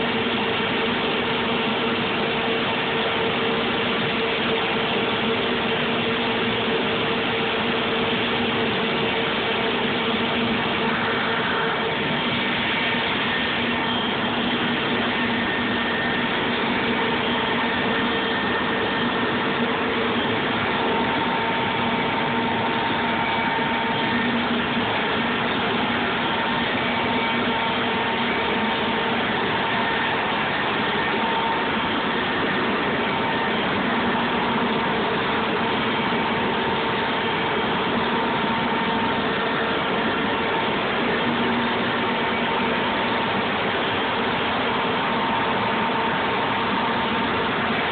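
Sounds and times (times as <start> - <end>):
shop machinery drone: 0.0 - 47.9.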